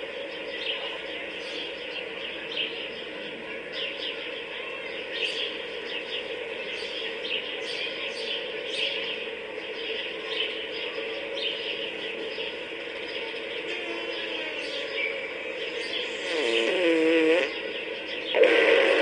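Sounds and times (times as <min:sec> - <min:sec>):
steady background hum: 0:00.0 - 0:16.7, 0:17.4 - 0:19.0
birds chirping: 0:00.0 - 0:19.0.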